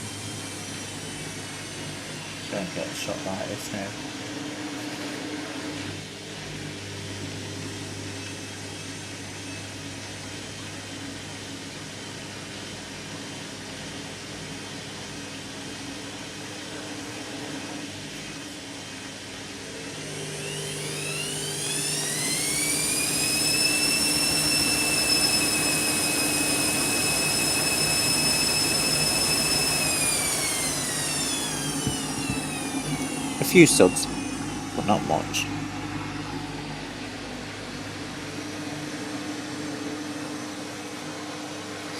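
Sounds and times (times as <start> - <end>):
washing machine spin whine: 0.0 - 41.9.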